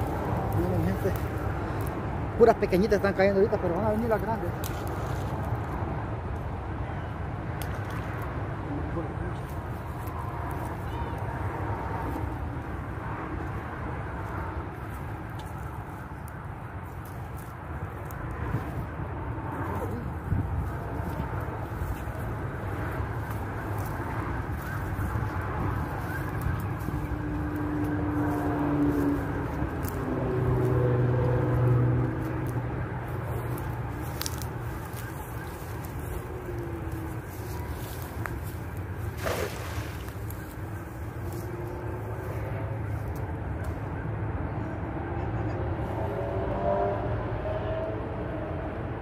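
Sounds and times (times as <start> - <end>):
low rumbling background noise: 0.0 - 49.0
passing motor vehicle engine hum: 0.0 - 49.0.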